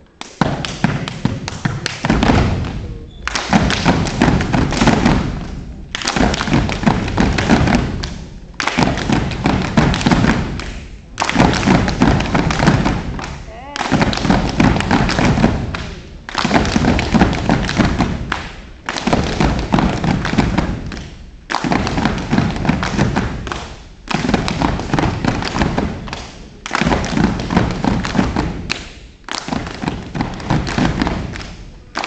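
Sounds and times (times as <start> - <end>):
rhythmic stomps and claps: 0.0 - 32.0.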